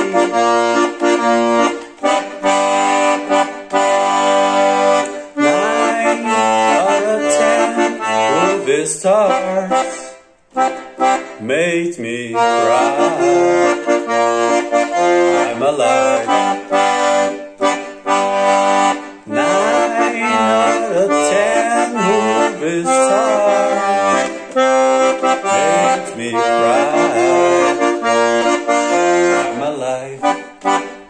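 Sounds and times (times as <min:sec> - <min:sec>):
accordion playing chords: 0:00.0 - 0:31.0.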